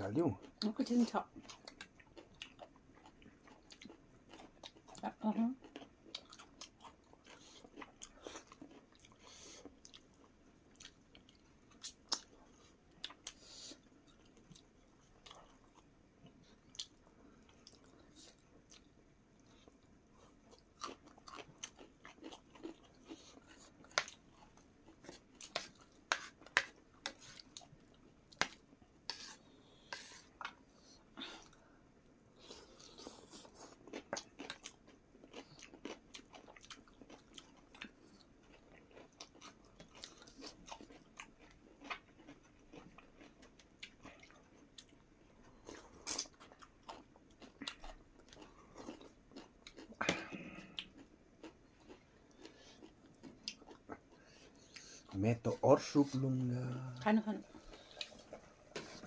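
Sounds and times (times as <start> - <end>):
chewing and mouth smacking: 1.4 - 5.0, 5.6 - 28.8, 32.4 - 55.2, 57.5 - 59.0.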